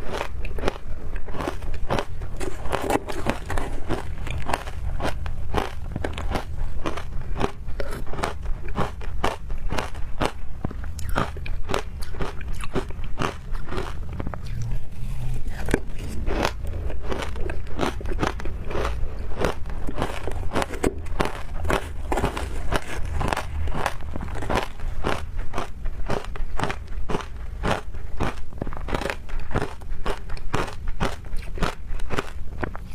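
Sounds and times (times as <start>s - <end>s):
ice being chewed: 0.0s - 32.9s.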